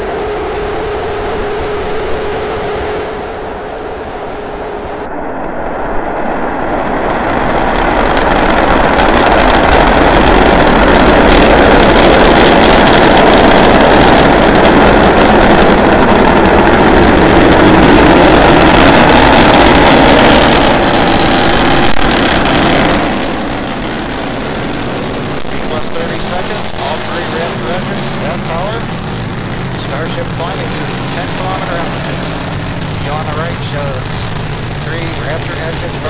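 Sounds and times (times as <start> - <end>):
rocket engines rumbling: 0.0 - 36.0.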